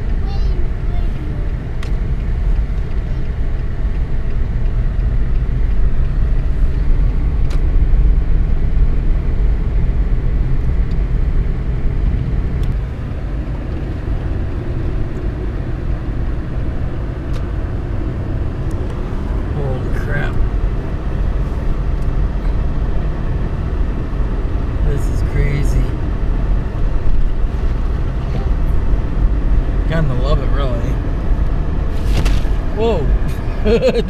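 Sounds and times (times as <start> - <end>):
car rumble on snowy road: 0.0 - 34.0
tyre and road noise: 0.0 - 34.0.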